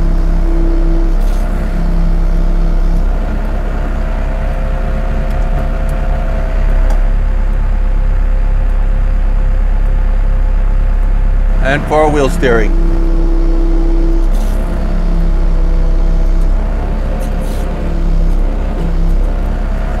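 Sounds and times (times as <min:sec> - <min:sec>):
hydraulics whining: 0:00.0 - 0:08.5, 0:11.3 - 0:20.0
diesel engine running: 0:00.0 - 0:20.0.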